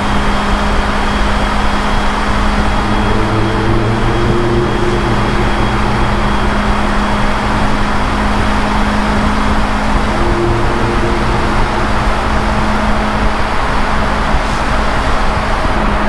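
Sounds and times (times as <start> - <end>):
motorcycle engine cruising: 1.4 - 15.6
wind rush: 2.1 - 15.8.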